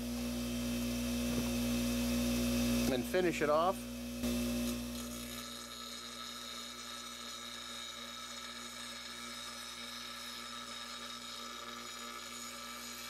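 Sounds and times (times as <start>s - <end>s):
bench grinder grinding steel: 0.0s - 13.0s.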